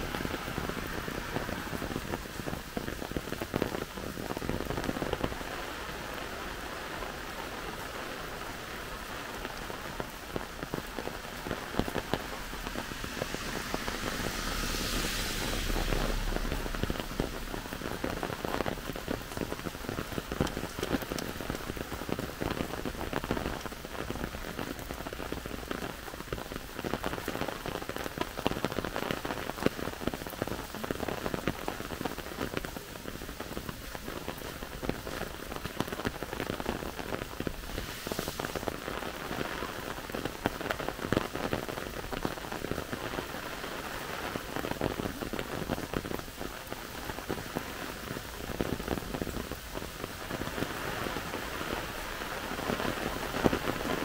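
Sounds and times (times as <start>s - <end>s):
steady rain falling: 0.0s - 54.0s
raindrops tapping: 7.0s - 54.0s.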